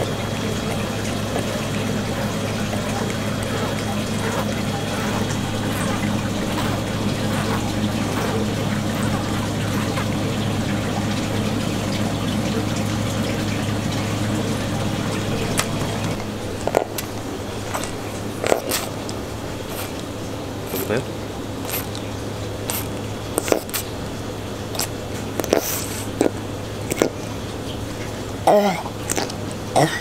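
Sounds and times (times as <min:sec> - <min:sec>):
low machine hum: 0:00.0 - 0:30.0
running water: 0:00.0 - 0:30.0.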